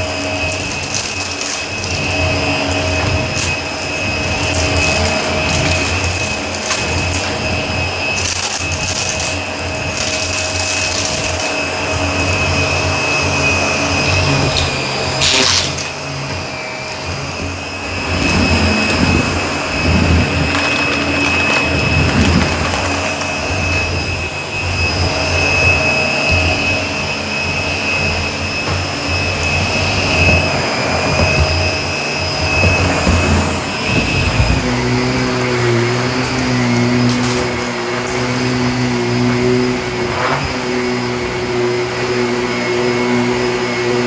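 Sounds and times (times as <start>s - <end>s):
debris crackling in vacuum: 0.0s - 41.8s
vacuum cleaner running: 0.0s - 44.0s.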